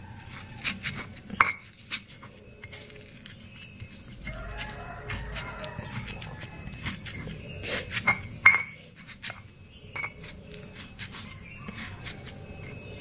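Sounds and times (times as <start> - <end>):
stone pestle grinding in mortar: 0.0 - 13.0
stone knocking and scraping on stone: 0.4 - 13.0.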